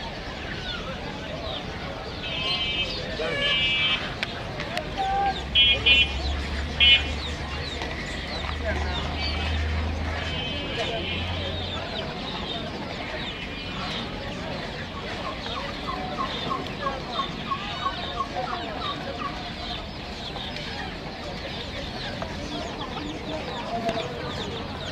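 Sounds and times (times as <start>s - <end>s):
caged birds chirping: 0.0s - 24.9s
quick evenly spaced bird calls: 0.0s - 24.9s.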